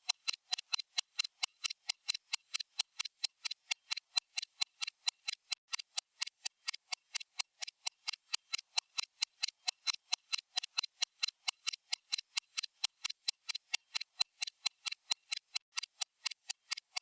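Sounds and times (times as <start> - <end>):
stopwatch ticking: 0.0 - 17.0.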